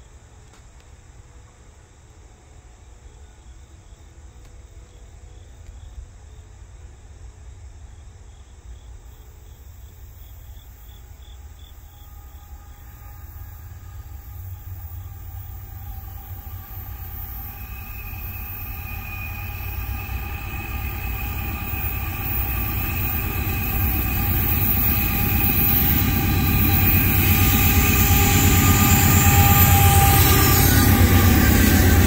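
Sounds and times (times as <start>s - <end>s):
insects chirping: 0.0s - 32.0s
train rumble: 0.0s - 32.0s.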